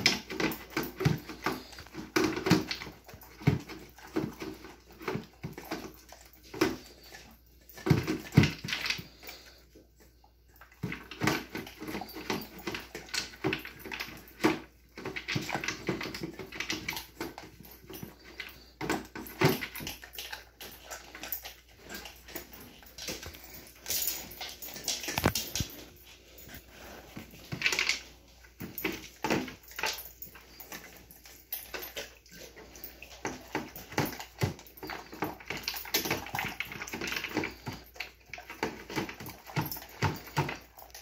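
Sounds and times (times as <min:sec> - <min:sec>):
dog chewing: 0:00.0 - 0:41.0
dog eating from feeder bowl: 0:00.0 - 0:41.0.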